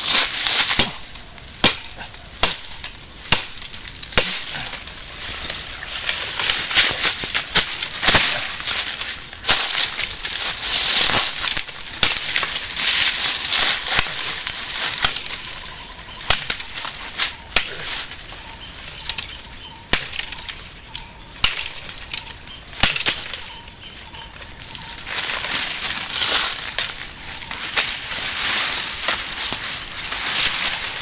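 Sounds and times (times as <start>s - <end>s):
rustling and crunching: 0.0s - 31.0s
sharp cracks: 0.0s - 31.0s.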